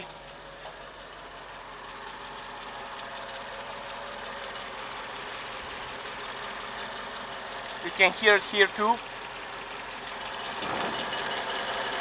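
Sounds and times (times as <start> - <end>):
car engine idling: 0.0 - 12.0
engine ticking: 0.0 - 12.0.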